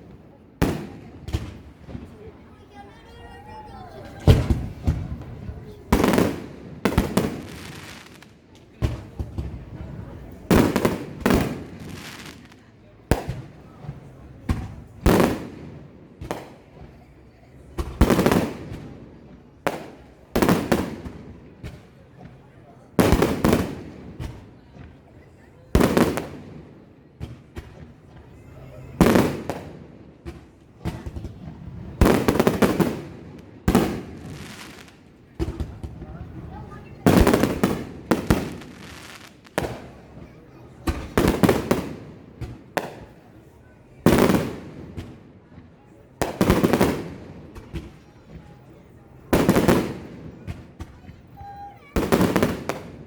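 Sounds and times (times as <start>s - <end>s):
fireworks exploding: 0.0s - 53.0s.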